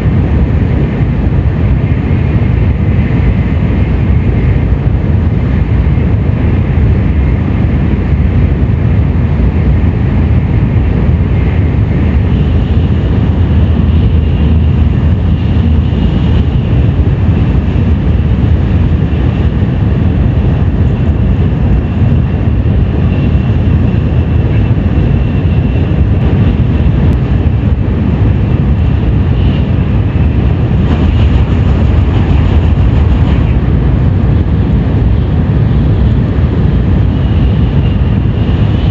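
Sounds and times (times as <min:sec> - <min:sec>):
train rumble inside carriage: 0:00.0 - 0:38.9.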